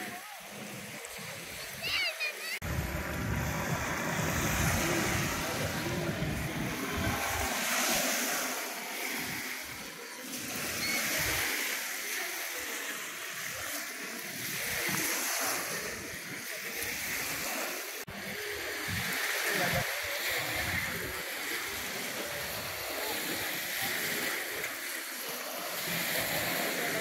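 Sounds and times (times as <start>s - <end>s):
waves washing onto beach: 0.0s - 27.0s.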